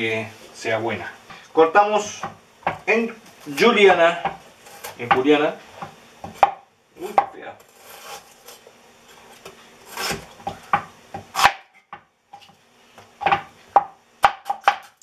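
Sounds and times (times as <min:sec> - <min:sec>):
knife slicing onion on board: 0:02.2 - 0:15.0.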